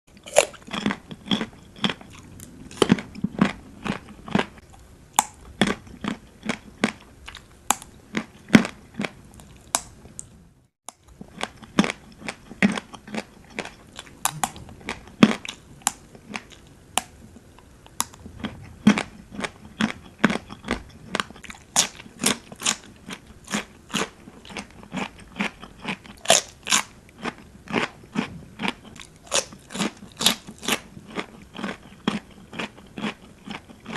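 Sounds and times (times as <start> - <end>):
person chewing crunchy food: 0.1 - 33.9.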